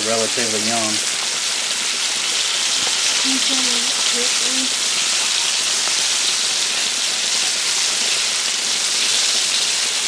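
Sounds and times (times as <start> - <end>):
meat sizzling in hot grease: 0.0 - 10.0.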